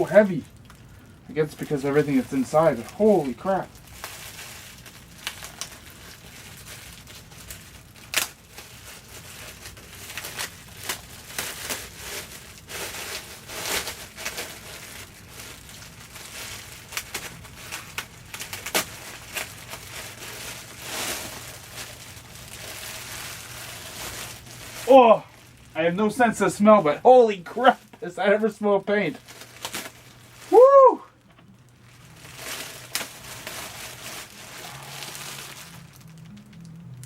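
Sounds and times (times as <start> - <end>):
packaging crinkling and rustling: 0.0 - 37.0.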